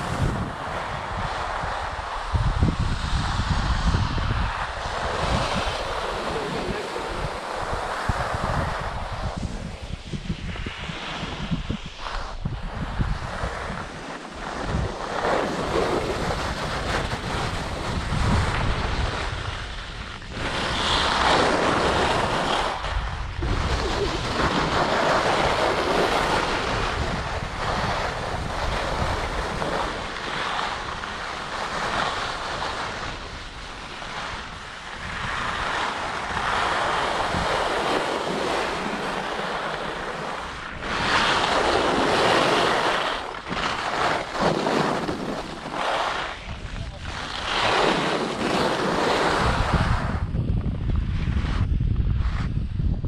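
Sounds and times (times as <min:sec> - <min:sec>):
skis carving on packed snow: 0:00.0 - 0:50.3, 0:51.1 - 0:52.7
wind buffeting microphone: 0:00.0 - 0:53.0.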